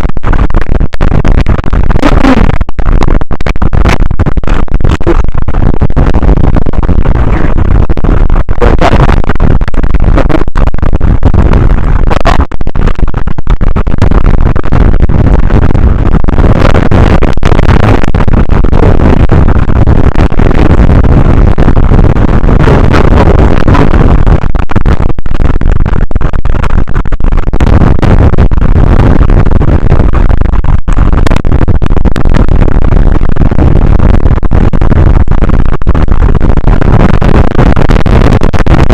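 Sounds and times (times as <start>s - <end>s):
strong wind on microphone: 0.0s - 38.9s.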